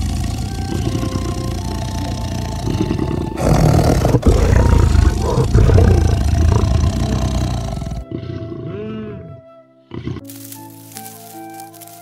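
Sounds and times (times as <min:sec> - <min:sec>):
lion roaring: 0:00.0 - 0:10.2.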